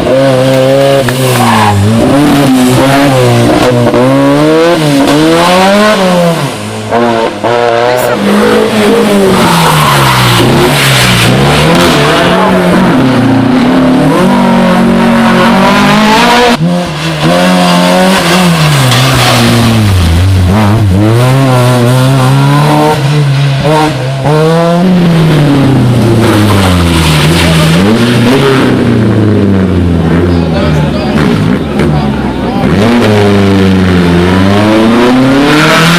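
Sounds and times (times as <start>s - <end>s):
rally car engines revving: 0.0s - 35.9s.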